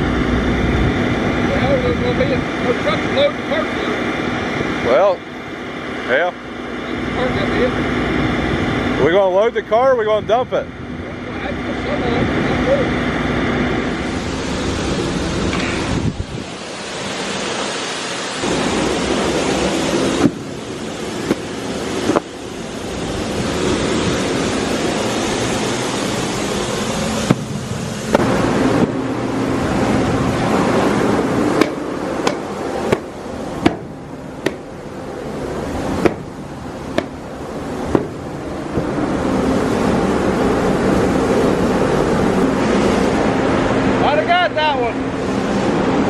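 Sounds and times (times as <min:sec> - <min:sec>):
farm machinery running: 0:00.0 - 0:46.0.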